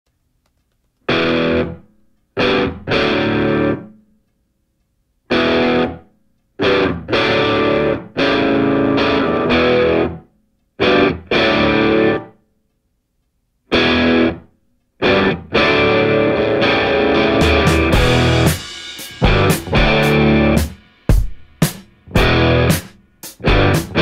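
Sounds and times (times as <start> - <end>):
distorted electric guitar chords: 1.1 - 4.0, 5.3 - 6.0, 6.6 - 12.4, 13.7 - 24.0.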